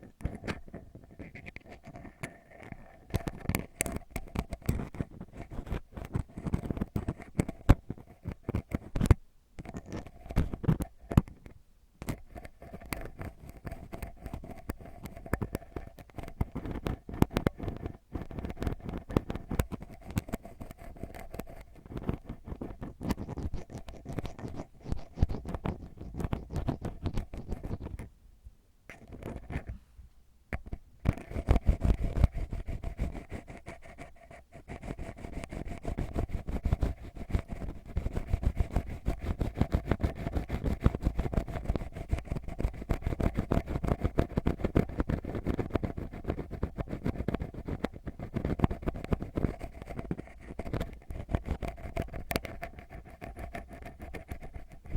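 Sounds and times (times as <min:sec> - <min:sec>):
ear pick scratching and scraping: 0:00.0 - 0:28.1, 0:28.9 - 0:29.8, 0:30.5 - 0:54.9.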